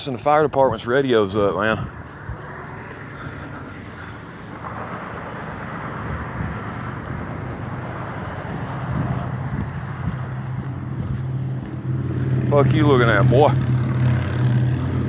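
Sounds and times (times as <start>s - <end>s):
motor vehicle engine hum: 0.2s - 15.0s.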